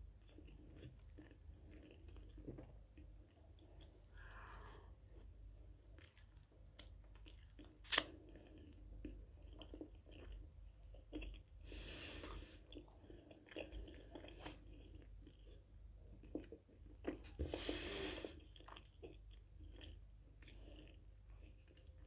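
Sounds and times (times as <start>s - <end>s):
person chewing: 0.2s - 22.0s.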